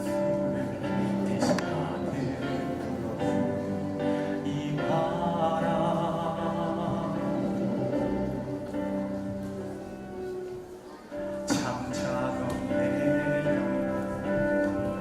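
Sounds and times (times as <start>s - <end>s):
voices singing together: 0.0s - 9.5s, 11.5s - 15.0s.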